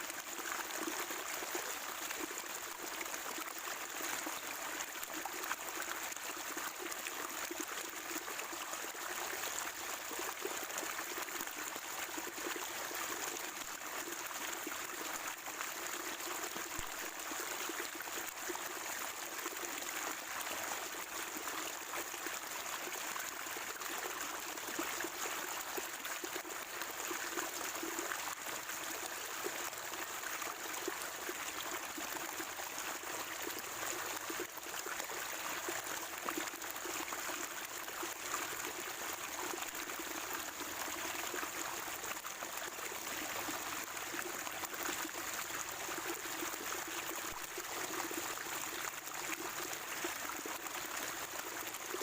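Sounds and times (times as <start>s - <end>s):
spring water trickling and gurgling: 0.0s - 52.0s.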